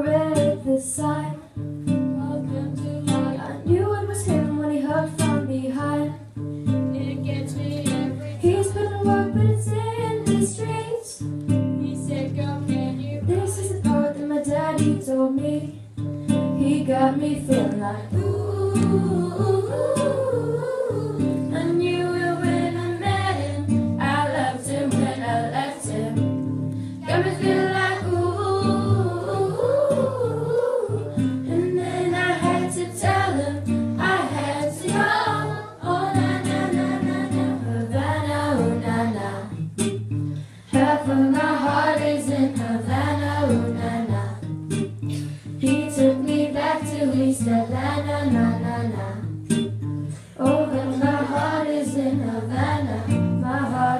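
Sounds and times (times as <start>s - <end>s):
acoustic guitar: 0.0s - 53.9s
girls singing pop song: 0.0s - 53.9s.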